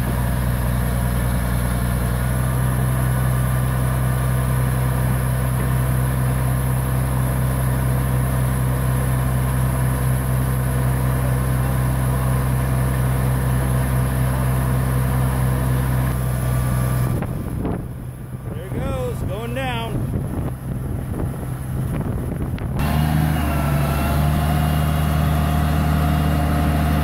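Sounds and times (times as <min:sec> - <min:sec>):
drilling rig engine humming: 0:00.0 - 0:27.0.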